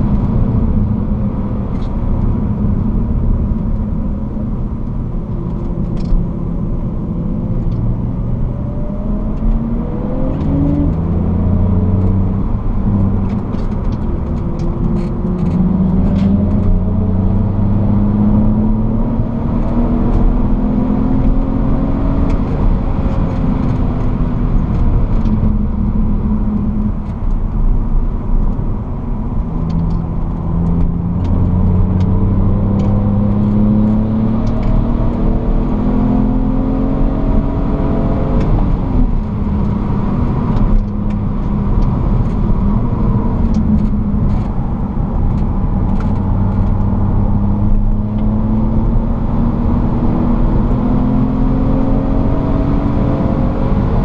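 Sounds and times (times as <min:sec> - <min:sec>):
car engine revving: 0:00.0 - 0:54.0
tyre and road roar: 0:00.0 - 0:54.0.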